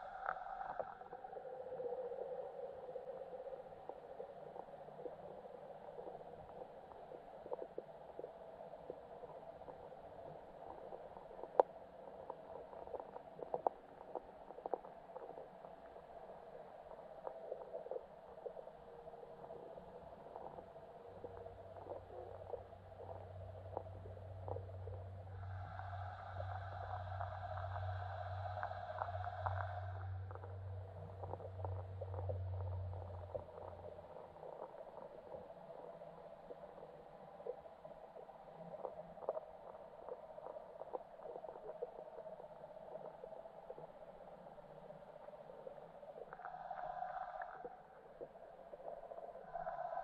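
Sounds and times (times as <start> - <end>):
muffled underwater hum: 0.0 - 50.0.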